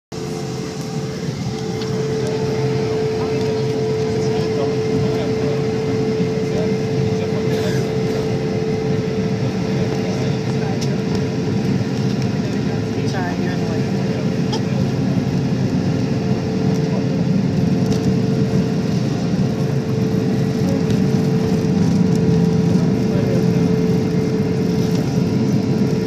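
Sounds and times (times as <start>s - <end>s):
jet engines droning in cabin: 0.1s - 26.0s.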